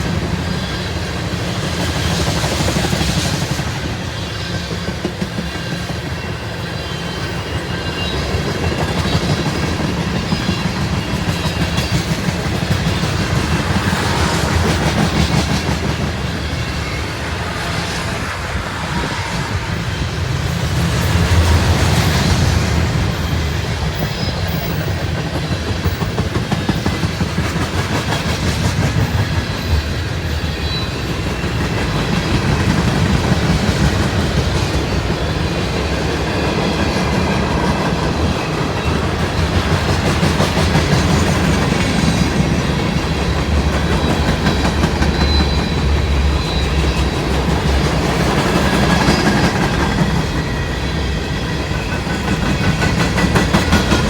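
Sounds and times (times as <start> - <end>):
freight train rolling past: 0.0 - 54.0
wheels clacking over rail joints: 0.0 - 54.0.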